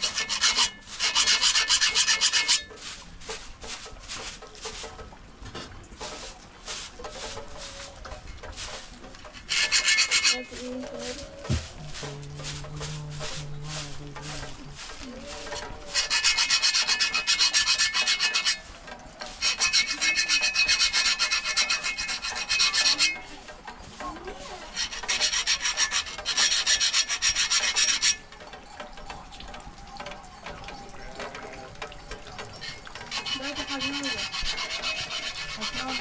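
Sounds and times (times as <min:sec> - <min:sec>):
rasping scraping strokes: 0:00.0 - 0:05.2, 0:06.0 - 0:30.2, 0:30.8 - 0:36.0.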